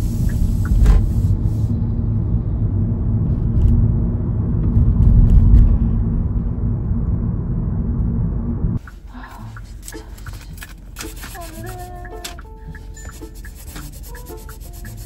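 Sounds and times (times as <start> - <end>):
car driving low rumble: 0.0 - 13.0.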